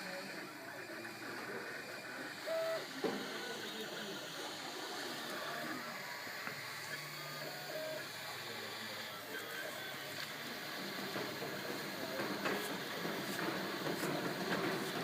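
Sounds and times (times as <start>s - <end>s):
stepper motors whirring: 0.0s - 15.0s.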